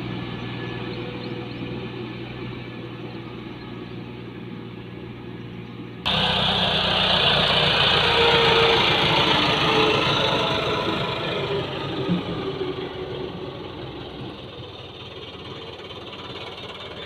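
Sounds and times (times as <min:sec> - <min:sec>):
tractor diesel engine: 0:00.0 - 0:17.0.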